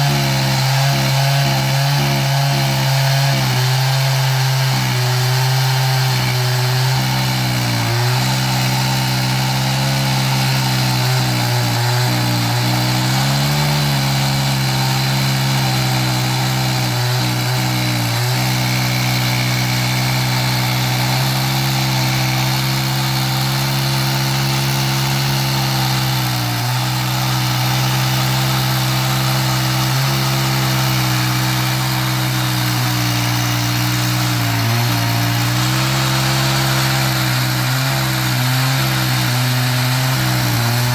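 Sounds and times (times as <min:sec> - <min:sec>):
chainsaw cutting a log: 0:00.0 - 0:40.9.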